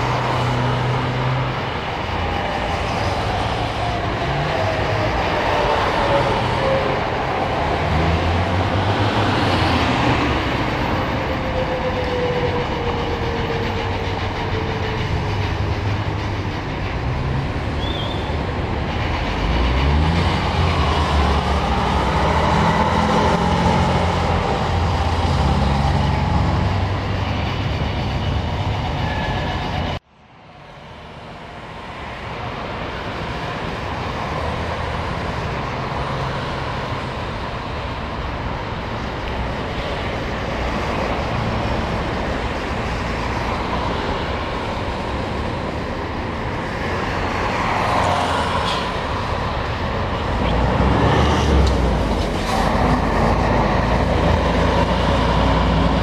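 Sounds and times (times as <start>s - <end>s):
bus engine pulling away: 0.0s - 30.0s, 30.6s - 56.0s
street traffic noise: 0.0s - 56.0s.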